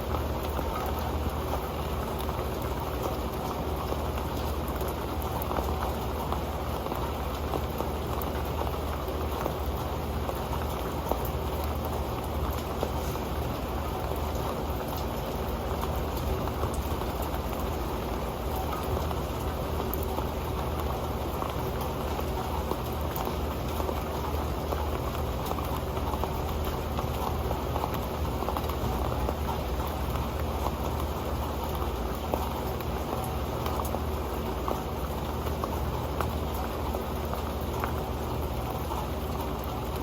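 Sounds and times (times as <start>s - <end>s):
rain pattering on a metal pan: 0.0s - 40.0s.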